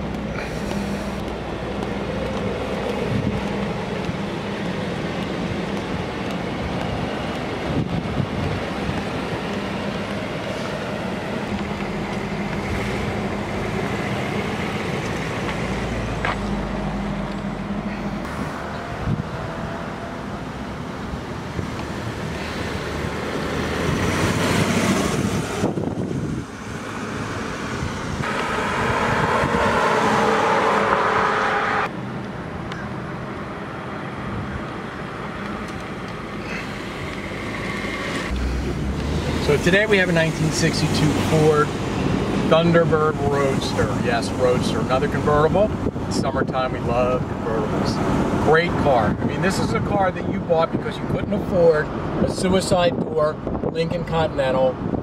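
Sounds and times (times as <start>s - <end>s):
car engine hum: 0.0s - 50.6s
tyre and road noise: 0.0s - 55.0s.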